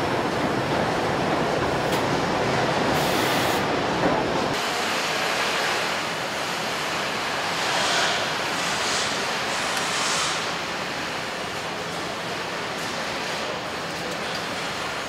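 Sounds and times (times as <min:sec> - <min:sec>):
machinery roar in factory hall: 0:00.0 - 0:15.0.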